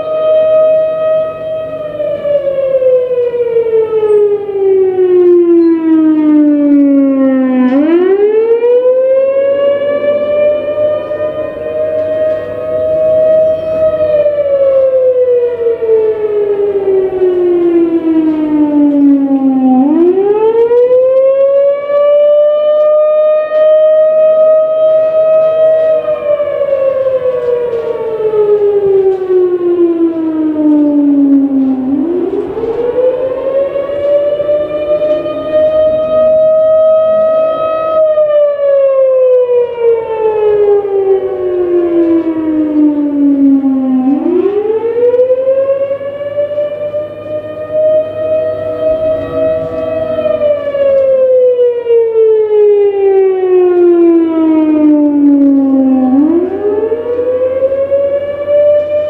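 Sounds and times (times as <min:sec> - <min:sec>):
outdoor warning siren wailing: 0:00.0 - 0:59.0.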